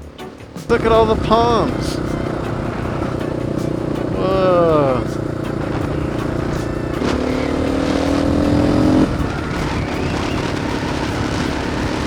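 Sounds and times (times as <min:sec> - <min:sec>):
dirt bike engine revving: 0:00.0 - 0:12.0
wind and road noise: 0:00.0 - 0:12.0.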